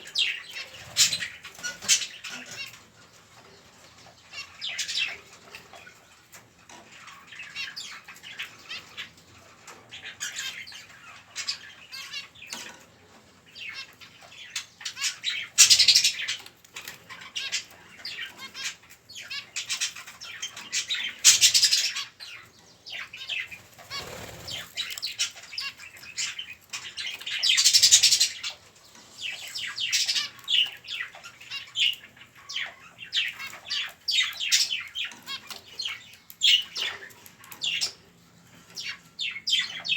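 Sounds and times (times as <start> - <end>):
chicks chirping and begging: 0.0 - 39.9.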